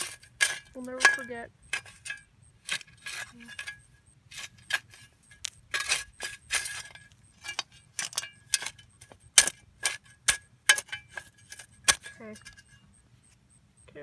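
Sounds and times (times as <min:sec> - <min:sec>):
metal shovel scraping soil: 0:00.0 - 0:13.4.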